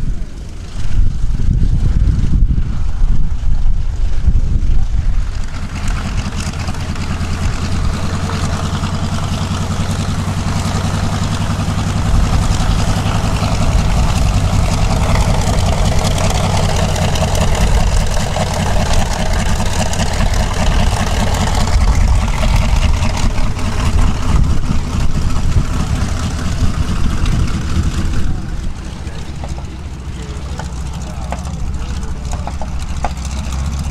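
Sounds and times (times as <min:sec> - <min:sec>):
radial aircraft engine rumbling: 0:00.0 - 0:33.9.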